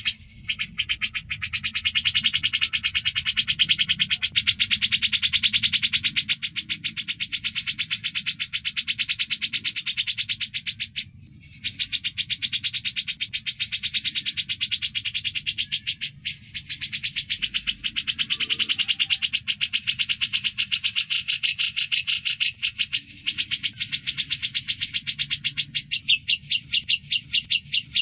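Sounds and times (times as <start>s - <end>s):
songbird chattering trill: 0.0s - 28.0s.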